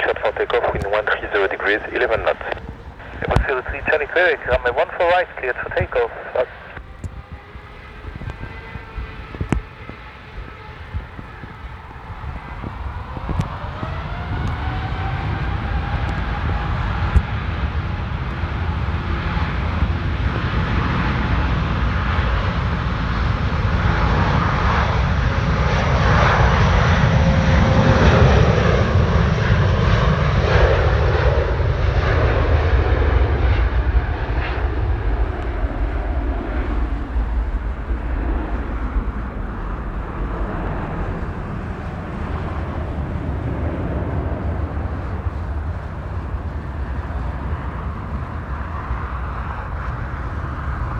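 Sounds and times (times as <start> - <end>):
jet airliner taking off: 0.0 - 50.9.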